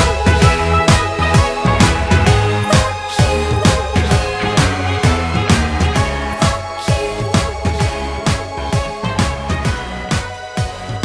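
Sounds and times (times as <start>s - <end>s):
instrumental pop music: 0.0s - 11.0s
punchy kick drum: 0.0s - 11.0s
steady bass line: 0.0s - 11.0s.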